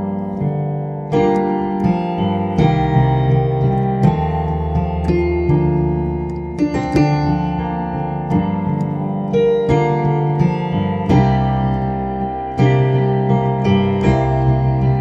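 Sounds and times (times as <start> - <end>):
slow gospel piano chords: 0.0 - 15.0.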